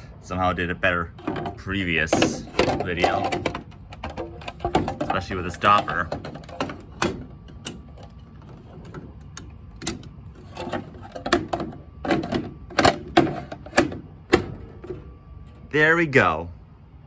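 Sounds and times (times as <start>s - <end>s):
clicks and knocks of plastic alarm cover: 1.2s - 15.0s.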